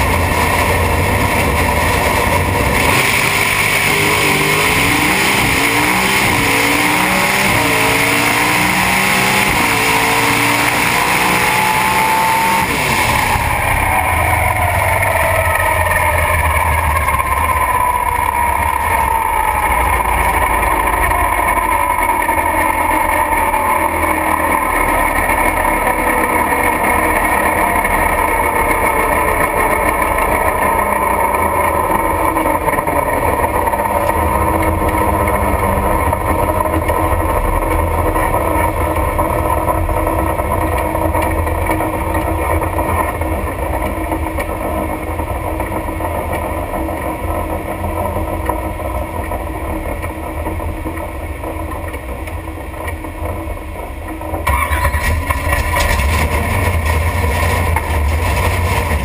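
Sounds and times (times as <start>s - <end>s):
race car engine running: 0.0s - 59.0s.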